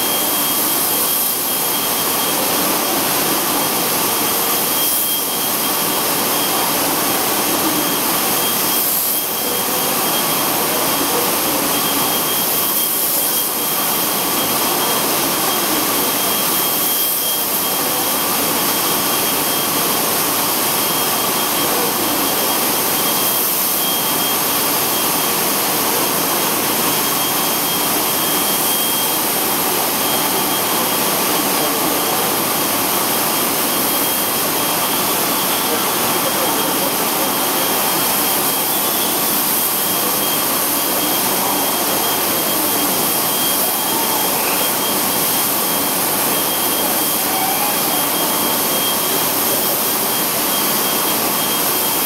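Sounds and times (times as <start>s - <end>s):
faint high whine: 0.0s - 52.0s.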